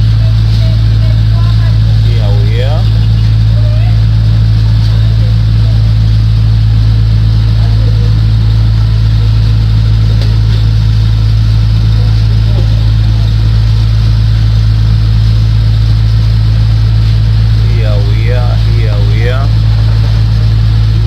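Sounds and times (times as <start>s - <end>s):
loud steady low hum: 0.0s - 21.0s.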